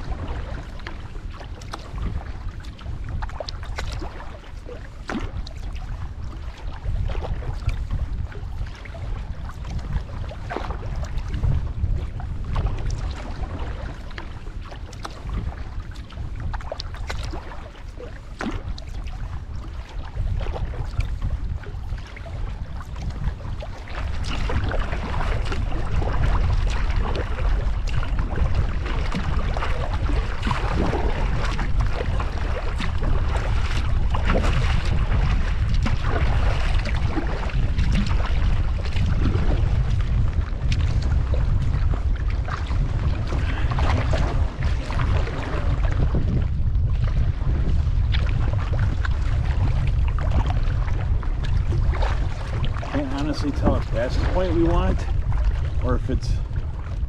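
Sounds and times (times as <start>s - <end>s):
paddle dipping: 0.0s - 57.0s
water splashing against canoe: 0.0s - 57.0s
wind buffeting microphone: 0.0s - 57.0s.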